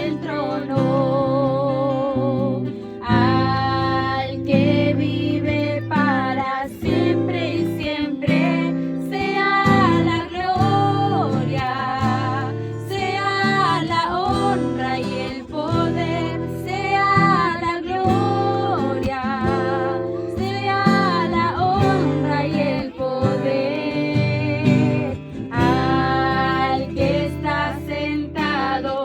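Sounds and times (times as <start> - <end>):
person singing with vibrato: 0.0 - 29.0
strummed acoustic guitar: 0.0 - 29.0.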